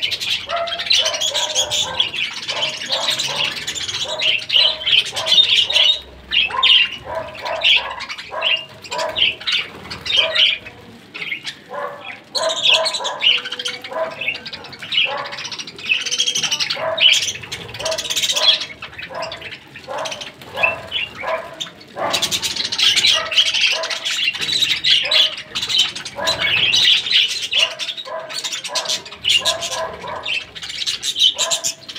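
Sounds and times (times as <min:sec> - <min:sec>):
budgerigars chattering and squawking: 0:00.0 - 0:31.9.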